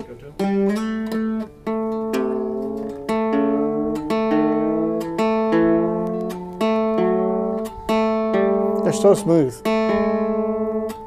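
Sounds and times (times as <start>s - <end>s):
mandolin strummed: 0.0s - 11.0s
mandolin notes sliding in pitch: 0.4s - 11.0s.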